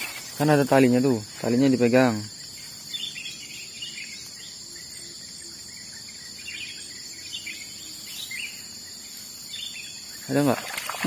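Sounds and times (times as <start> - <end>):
insects chirping chorus: 0.0 - 11.0
short insect chirps: 0.0 - 11.0.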